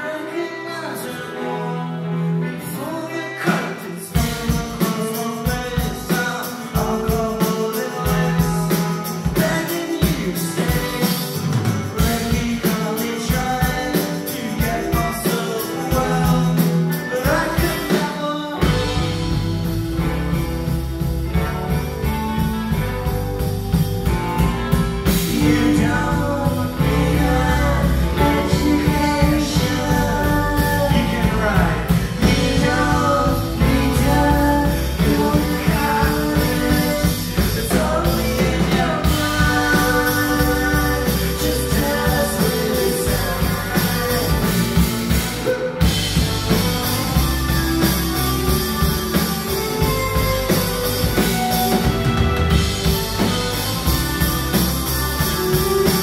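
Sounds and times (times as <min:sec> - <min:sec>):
person singing: 0:00.0 - 0:20.3, 0:25.0 - 0:56.0
bass guitar: 0:00.0 - 0:56.0
live rock band playing: 0:00.0 - 0:56.0.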